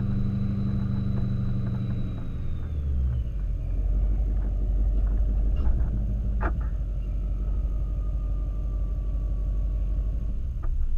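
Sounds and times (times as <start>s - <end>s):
diesel engine idling: 0.0s - 10.9s
faint whine falling in pitch: 0.0s - 10.9s.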